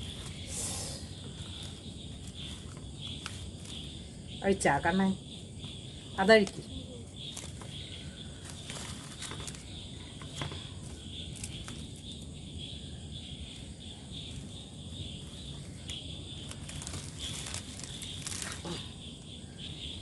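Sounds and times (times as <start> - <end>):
leaf wrapping rustling and crackling: 0.0 - 4.6, 5.6 - 12.4, 14.2 - 19.6
insects chirping high trill: 0.0 - 20.0.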